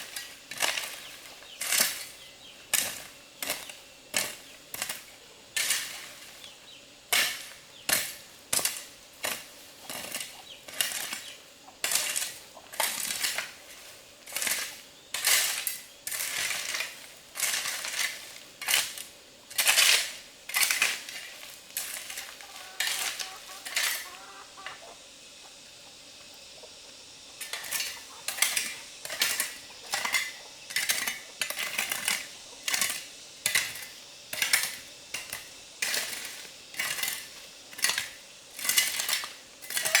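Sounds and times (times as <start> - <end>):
sharp metallic clinks and scrapes: 0.0 - 6.4, 7.1 - 24.9, 27.4 - 40.0.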